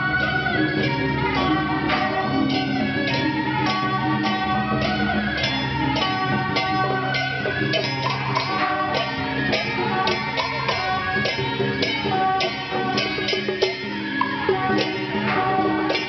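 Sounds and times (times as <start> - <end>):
sharp metallic percussion strikes: 0.0 - 16.0
sustained melodic tones: 0.0 - 16.0.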